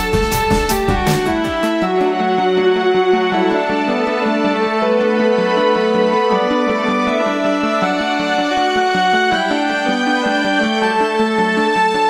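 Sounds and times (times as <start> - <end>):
melodic music with quick beat: 0.0 - 12.0.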